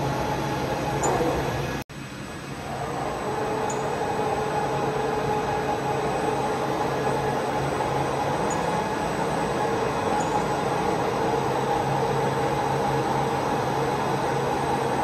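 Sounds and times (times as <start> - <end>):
lathe mechanical hum: 0.0 - 15.0
lathe whine: 0.0 - 15.0.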